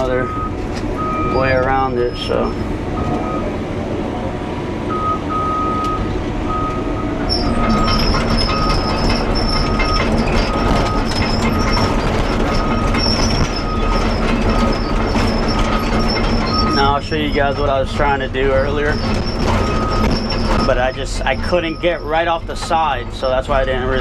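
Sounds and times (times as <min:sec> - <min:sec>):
excavator engine rumble: 0:00.0 - 0:24.0.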